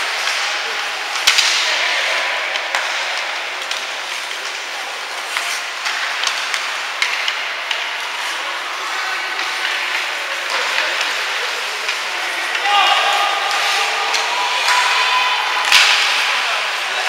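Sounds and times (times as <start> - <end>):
hockey sticks and puck clacking: 0.0 - 17.0
skates scraping on ice: 0.0 - 17.0.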